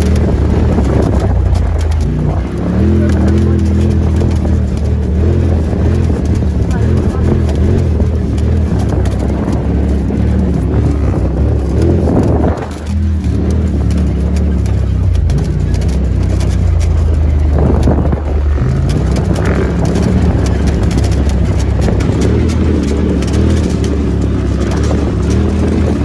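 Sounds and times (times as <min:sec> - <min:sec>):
clicks and rattles: 0:00.0 - 0:26.0
vehicle engine running: 0:00.0 - 0:26.0.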